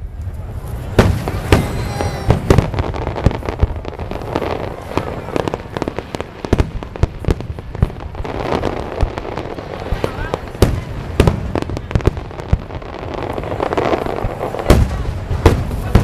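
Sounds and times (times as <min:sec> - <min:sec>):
fireworks bursting with sharp bangs: 0:00.0 - 0:16.0.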